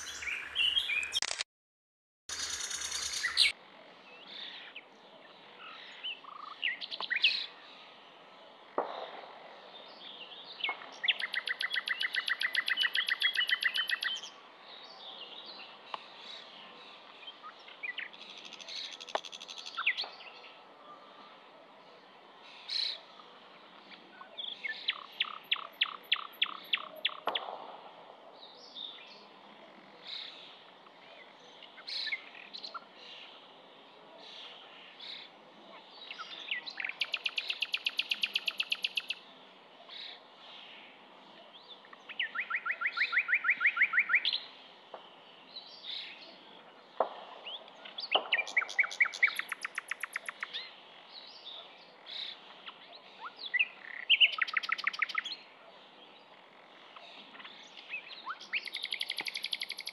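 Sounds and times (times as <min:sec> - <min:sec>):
songbird singing: 0:00.0 - 0:01.4, 0:02.3 - 0:59.9.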